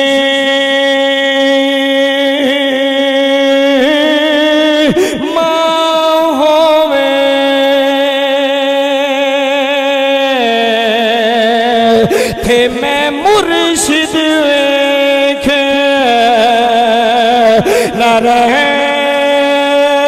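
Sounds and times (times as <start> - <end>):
man singing a devotional chant: 0.0 - 20.0.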